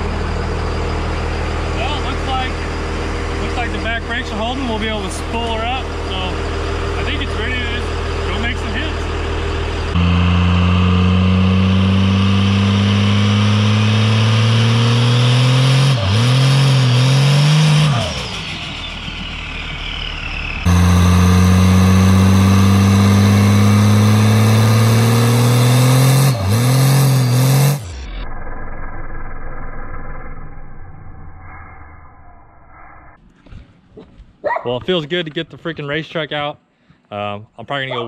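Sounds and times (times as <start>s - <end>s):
diesel engine revving: 0.0s - 30.9s.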